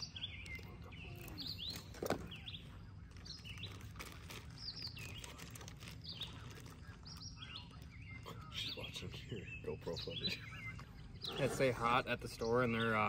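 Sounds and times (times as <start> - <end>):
low outdoor rumble: 0.0 - 13.0
small songbirds chirping: 0.0 - 13.0.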